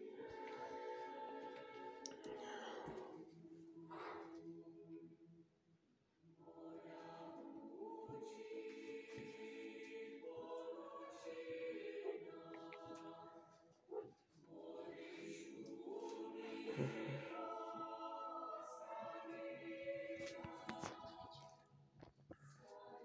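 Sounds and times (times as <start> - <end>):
choral music from television: 0.0 - 23.0.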